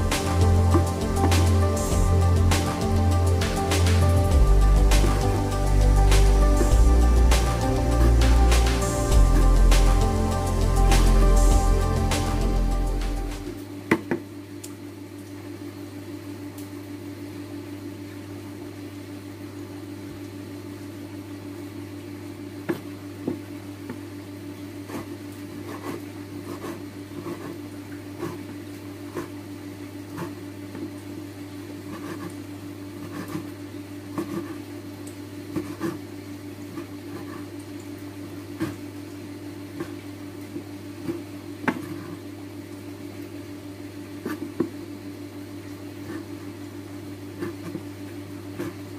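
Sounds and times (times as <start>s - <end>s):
low electrical hum: 0.0s - 48.9s.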